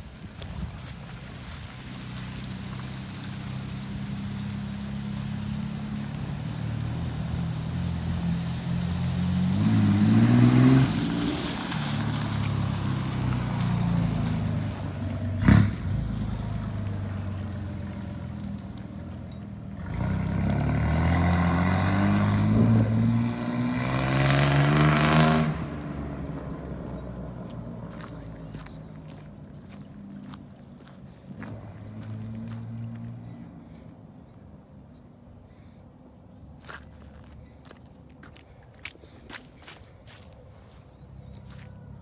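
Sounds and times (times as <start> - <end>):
vehicle engine accelerating: 0.0 - 34.4.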